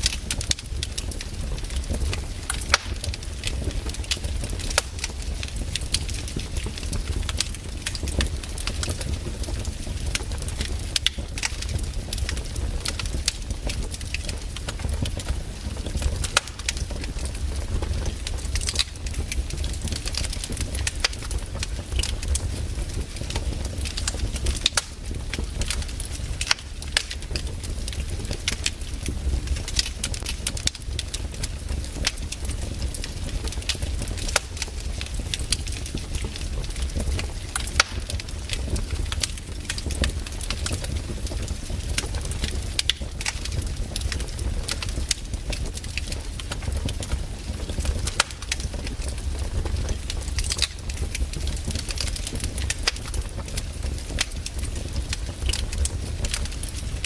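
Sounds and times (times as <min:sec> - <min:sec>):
campfire wood crackling: 0:00.0 - 0:57.0
sharp pops of fire: 0:00.0 - 0:57.0.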